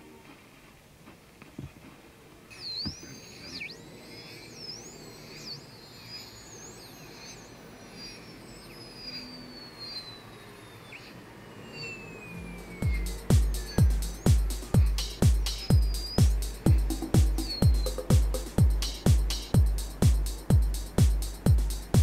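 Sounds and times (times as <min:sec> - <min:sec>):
high-pitched chirps and whistles: 0:02.5 - 0:22.0
long tone sliding downward: 0:02.5 - 0:22.0.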